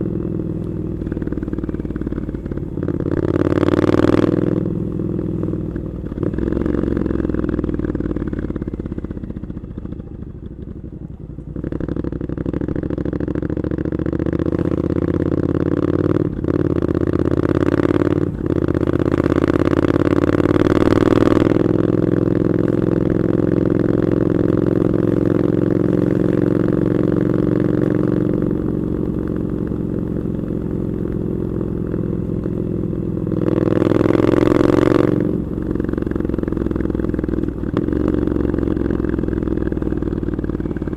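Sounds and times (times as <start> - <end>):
motorcycle engine under load: 0.0 - 40.9.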